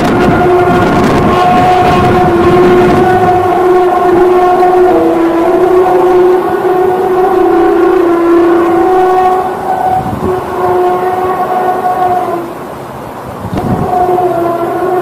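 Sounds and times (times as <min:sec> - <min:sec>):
loud horn-like drone: 0:00.0 - 0:15.0.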